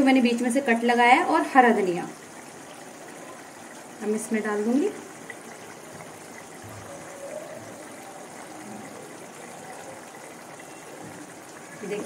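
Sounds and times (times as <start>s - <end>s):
curry simmering hiss: 0.0s - 12.0s.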